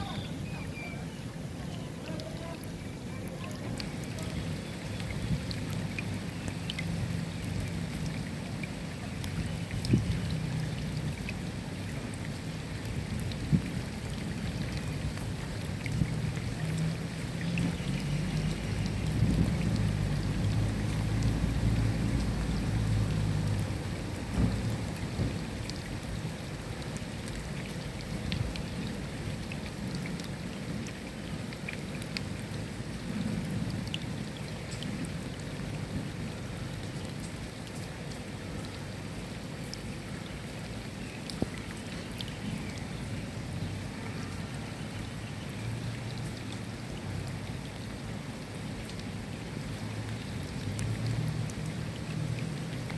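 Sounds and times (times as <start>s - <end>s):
steady rain falling: 0.0s - 52.9s
raindrop ticks: 2.0s - 38.8s, 41.2s - 43.0s, 45.5s - 52.9s.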